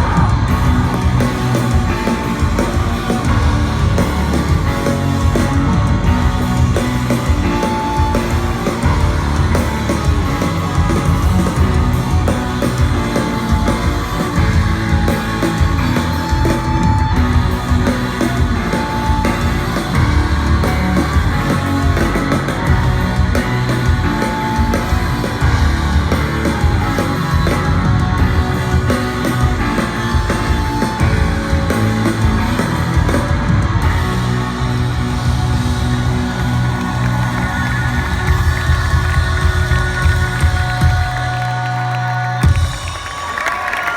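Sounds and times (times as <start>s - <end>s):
bass guitar: 0.0s - 42.9s
distorted electric guitars: 0.0s - 43.9s
drums: 0.0s - 43.9s.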